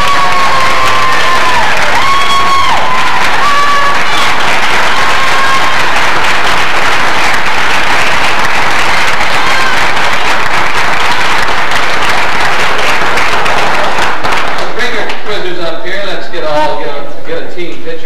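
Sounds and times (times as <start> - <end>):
high shouts and cheers: 0.0 - 15.0
audience applauding: 0.0 - 15.6.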